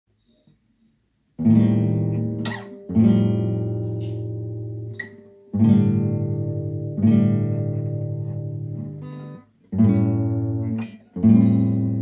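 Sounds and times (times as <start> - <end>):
guitar chords strummed: 1.4 - 12.0.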